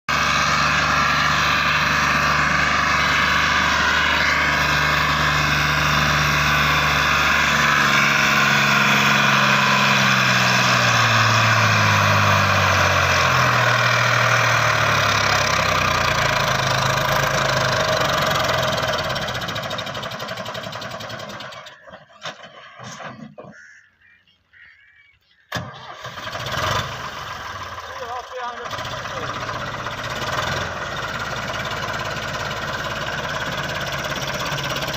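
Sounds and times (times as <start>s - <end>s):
tractor diesel engine running hard: 0.1s - 23.3s, 25.5s - 34.9s.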